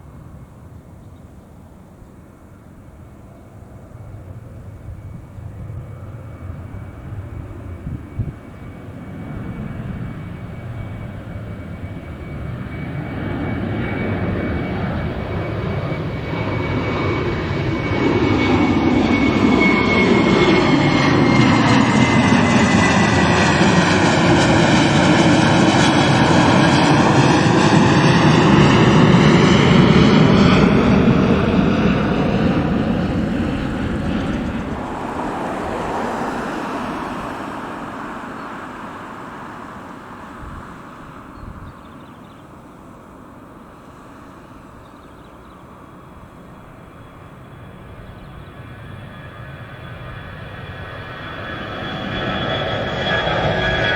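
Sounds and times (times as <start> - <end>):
jet engines at takeoff power: 0.0 - 53.9
high engine whine: 2.9 - 53.9.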